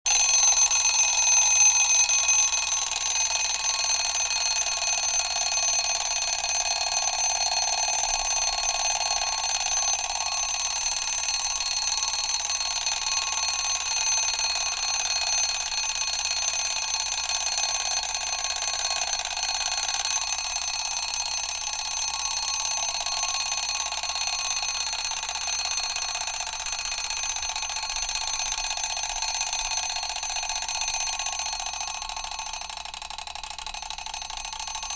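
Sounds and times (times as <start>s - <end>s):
mechanical alarm clock ringing: 0.1s - 34.9s.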